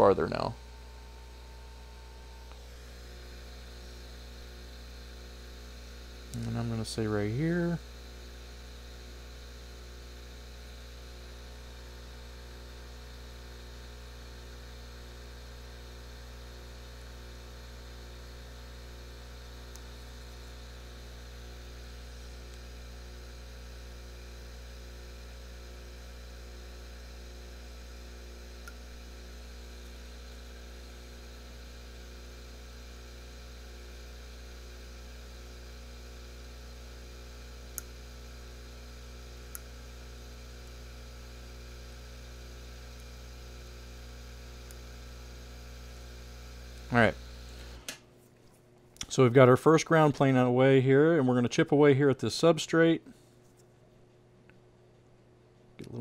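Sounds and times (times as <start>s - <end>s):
electrical hum with hiss: 0.0s - 56.0s.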